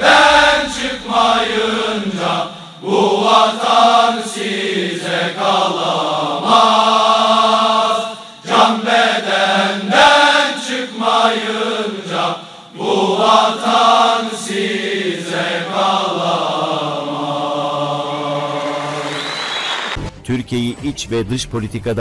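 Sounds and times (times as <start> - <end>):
voices chanting: 0.0 - 19.9.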